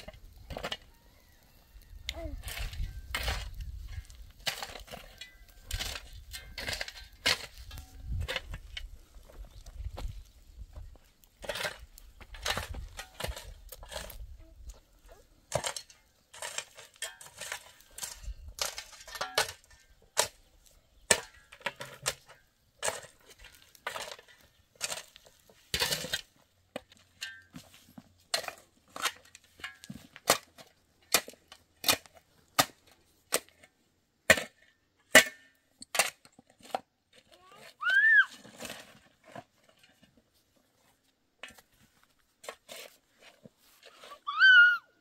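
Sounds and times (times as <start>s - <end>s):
pick striking stony soil: 2.2s - 14.6s, 15.4s - 40.2s.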